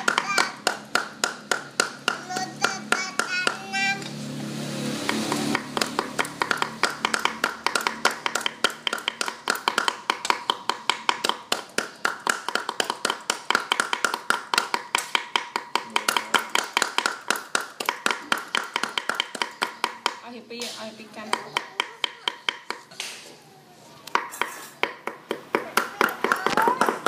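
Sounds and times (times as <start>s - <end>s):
knives chopping on wooden boards: 0.0s - 4.2s, 4.9s - 23.3s, 24.0s - 27.0s.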